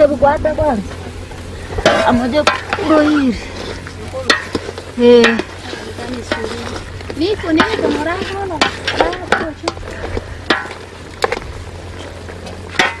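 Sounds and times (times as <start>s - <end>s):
meat sizzling in a pot: 0.0s - 13.0s
spatula scraping pot: 0.9s - 13.0s.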